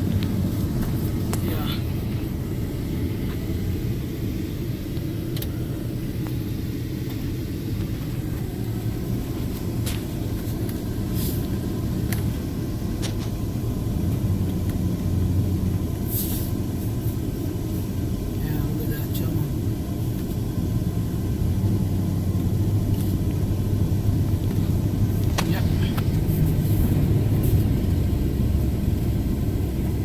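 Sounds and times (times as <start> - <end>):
car driving on highway: 0.0 - 30.0.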